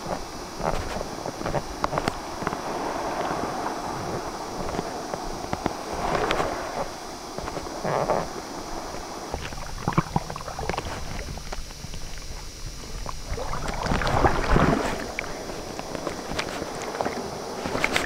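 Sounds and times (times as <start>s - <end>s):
wind buffeting microphone: 0.0s - 18.0s
water rushing and spraying: 2.0s - 18.0s.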